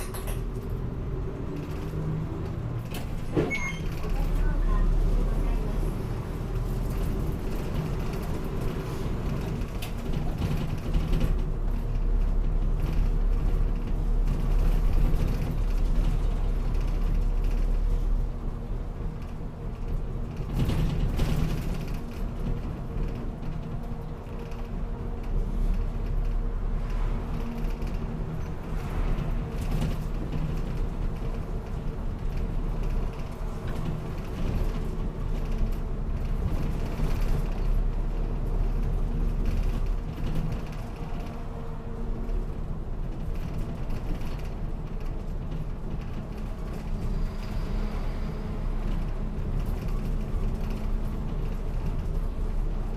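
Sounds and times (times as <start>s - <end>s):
bus body creaks and rattles: 0.0s - 52.9s
bus engine drone: 0.0s - 52.9s.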